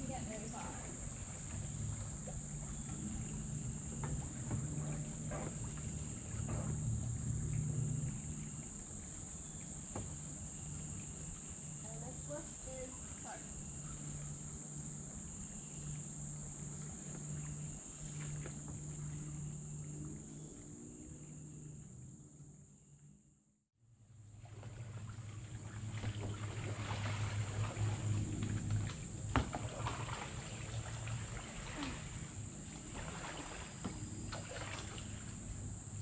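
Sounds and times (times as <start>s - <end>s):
crickets trilling: 0.0s - 23.2s, 24.4s - 36.0s.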